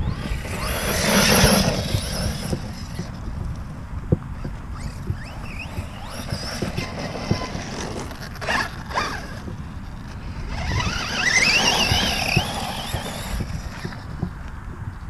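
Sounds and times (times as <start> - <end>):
electric motor whine: 0.0 - 3.2, 4.4 - 9.5, 10.1 - 14.0.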